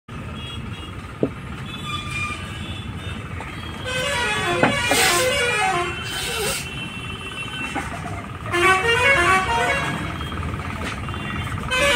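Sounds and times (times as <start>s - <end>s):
road traffic: 0.1s - 11.9s
vehicle horns honking: 0.2s - 11.9s.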